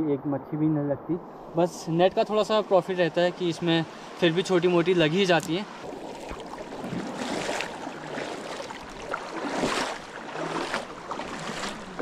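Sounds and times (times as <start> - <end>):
river water rushing and splashing: 1.3 - 12.0.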